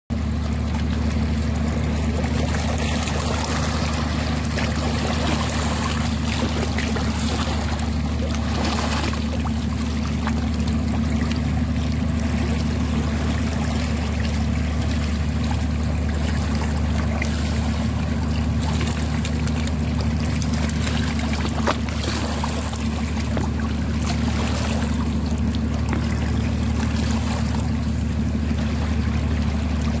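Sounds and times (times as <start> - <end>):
low engine drone: 0.1 - 30.0.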